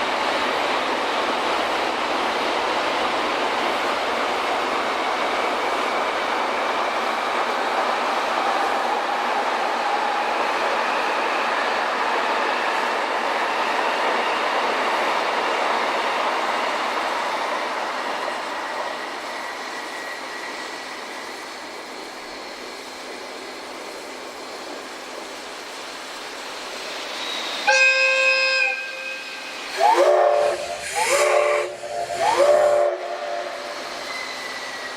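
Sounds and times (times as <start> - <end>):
steam train rolling past: 0.0 - 34.9.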